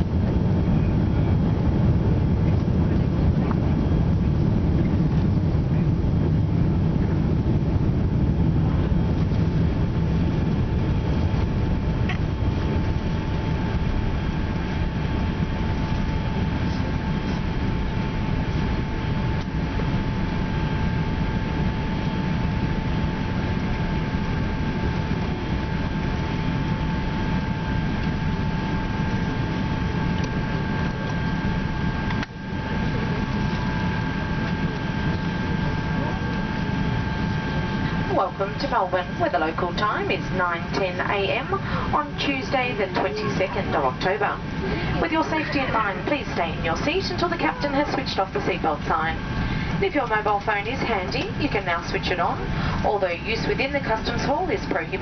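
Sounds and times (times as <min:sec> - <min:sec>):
aircraft engines and airframe rumble: 0:00.0 - 0:55.0
faint steady whine: 0:00.0 - 0:55.0.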